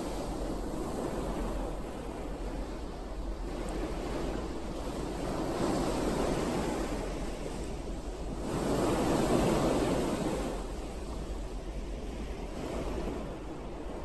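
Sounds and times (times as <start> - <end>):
ocean waves breaking on shore: 0.0 - 14.0.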